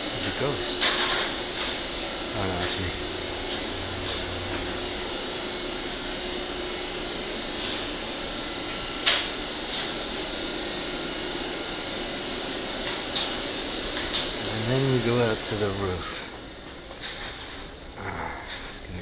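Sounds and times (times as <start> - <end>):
ventilation machinery hum: 0.0 - 19.0.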